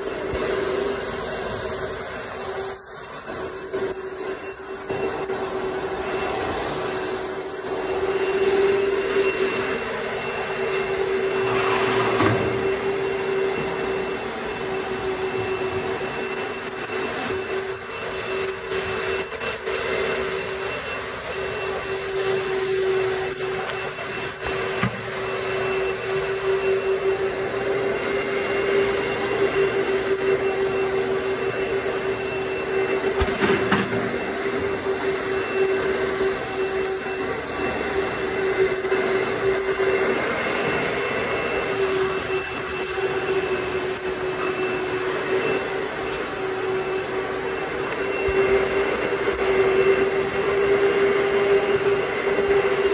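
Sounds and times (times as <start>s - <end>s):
machine motor whining: 0.0s - 52.9s.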